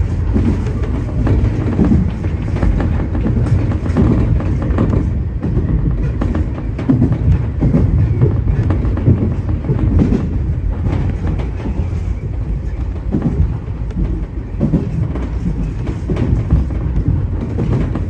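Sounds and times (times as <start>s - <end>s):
electric train running: 0.0s - 18.0s
wheels clacking over rail joints: 0.0s - 18.0s.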